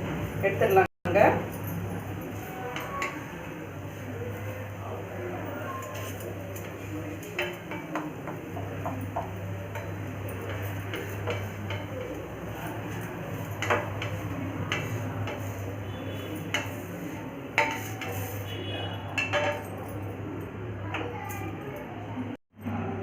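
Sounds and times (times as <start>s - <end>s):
utensils clinking against pan: 0.6s - 3.5s, 5.6s - 21.6s.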